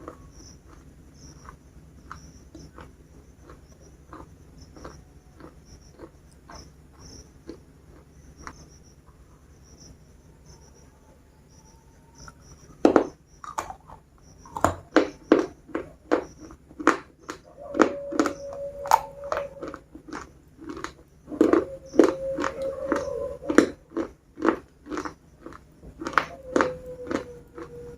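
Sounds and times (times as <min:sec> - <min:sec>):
biscuit crunchy bite: 0:00.0 - 0:08.6, 0:12.9 - 0:27.9
crisp chewing crunches: 0:00.0 - 0:08.7, 0:12.2 - 0:27.9.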